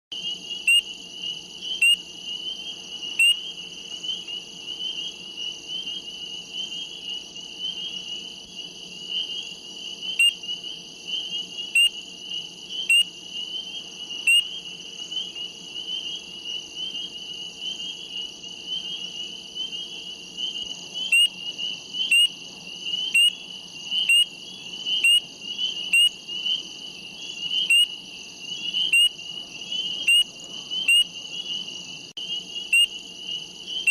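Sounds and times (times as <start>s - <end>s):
frogs peeping: 0.1s - 33.9s
frog chorus trilling: 0.2s - 8.4s, 9.0s - 33.9s.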